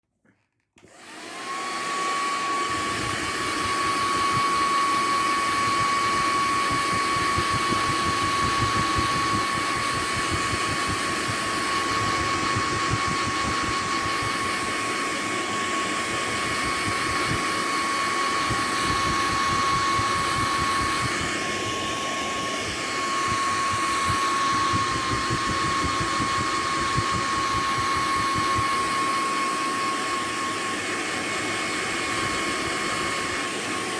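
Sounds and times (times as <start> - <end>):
hair dryer whining: 0.8 - 33.9.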